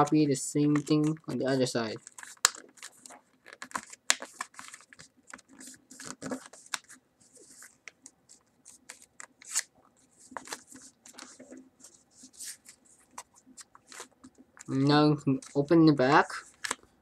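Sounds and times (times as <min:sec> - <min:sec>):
paper being folded and creased: 0:00.7 - 0:16.8.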